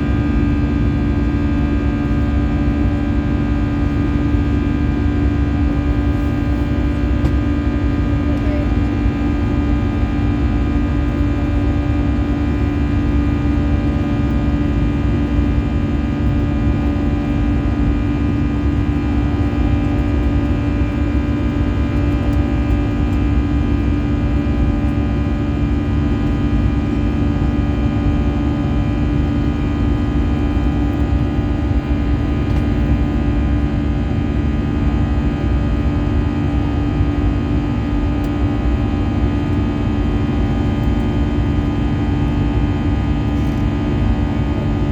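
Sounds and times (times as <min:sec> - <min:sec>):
airliner cabin engine drone: 0:00.0 - 0:44.9.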